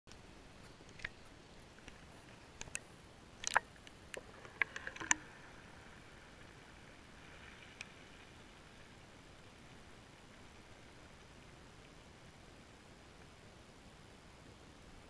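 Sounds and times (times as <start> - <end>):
faint steady hiss: 0.1 - 15.0.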